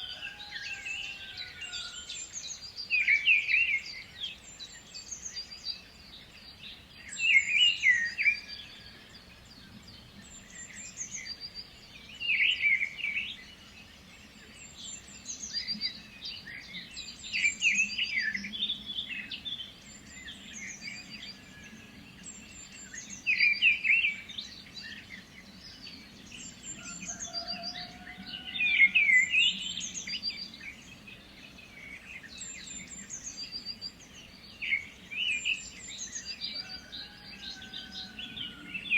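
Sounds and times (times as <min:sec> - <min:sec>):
bird warbled song: 0:00.0 - 0:38.9.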